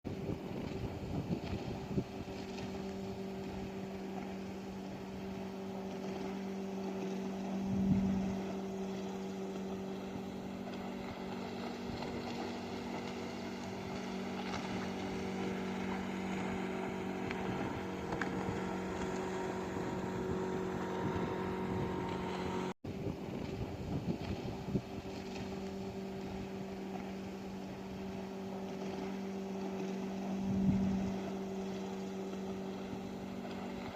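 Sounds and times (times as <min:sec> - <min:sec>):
motorboat engine droning: 0:00.1 - 0:33.9.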